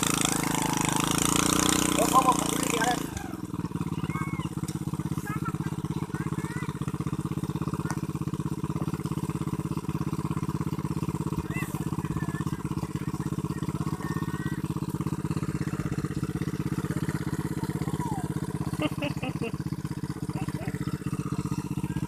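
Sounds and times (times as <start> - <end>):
harvesting machine engine running: 0.0 - 22.0.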